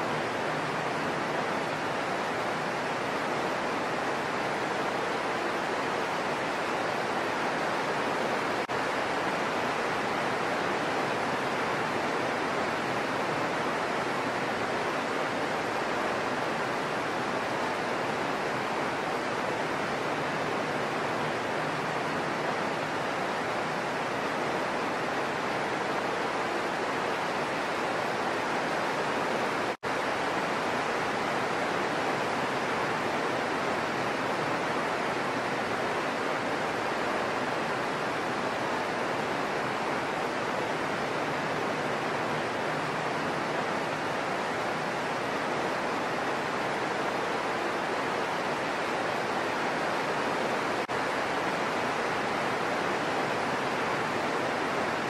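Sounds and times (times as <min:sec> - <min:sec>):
heavy rain hissing: 0:00.0 - 0:55.0.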